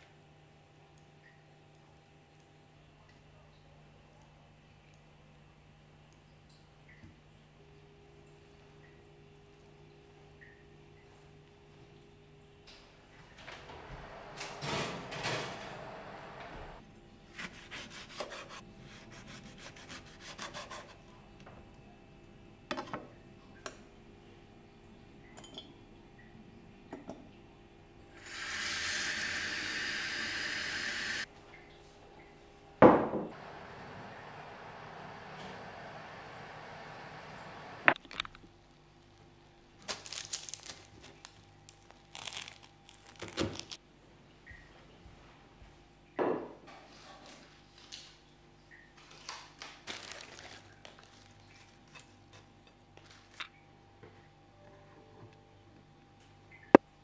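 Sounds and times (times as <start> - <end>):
faint steady hum: 0.0 - 46.2, 50.4 - 57.0.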